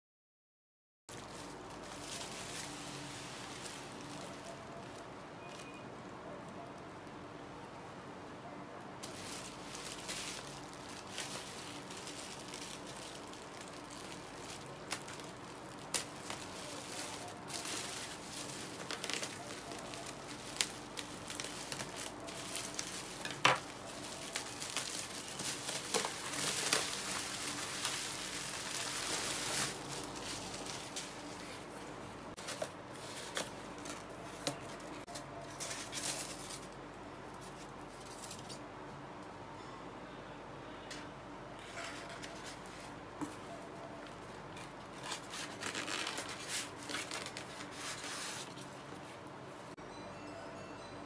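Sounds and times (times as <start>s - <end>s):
bubble wrap crinkling: 1.1s - 7.1s, 9.0s - 38.4s, 42.0s - 49.4s.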